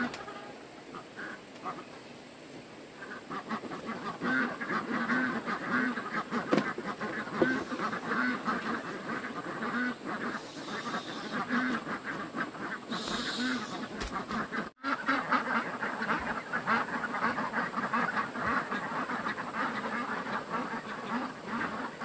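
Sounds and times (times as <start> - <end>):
waterfowl flock calling: 0.0 - 2.0, 3.0 - 22.0.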